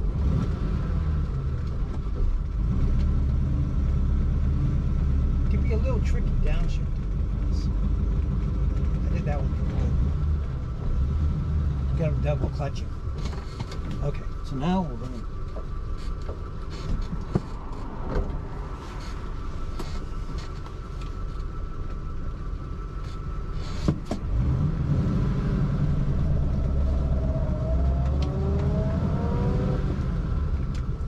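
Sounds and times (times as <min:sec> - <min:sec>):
car engine accelerating: 0:00.0 - 0:31.0
road noise: 0:00.0 - 0:31.0.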